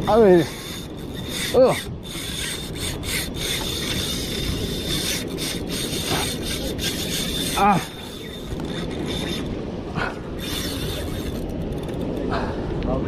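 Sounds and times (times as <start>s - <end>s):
fishing reel rasping: 0.0s - 9.6s, 10.3s - 12.2s
sea noise: 0.0s - 13.0s
wind: 0.0s - 13.0s.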